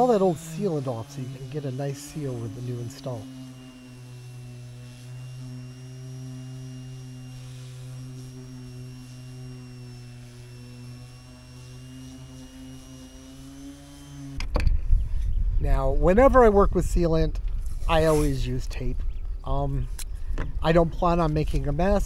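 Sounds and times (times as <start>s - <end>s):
orbital sander on wood: 0.0s - 22.0s.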